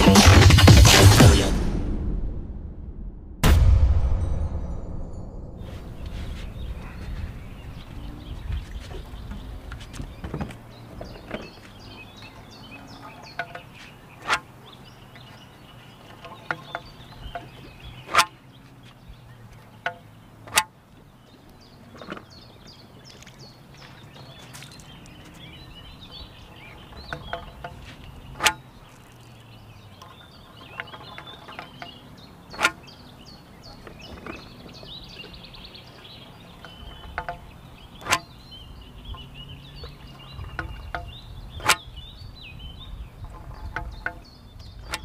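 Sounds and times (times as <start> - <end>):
faint bird chirping: 5.2 - 45.0.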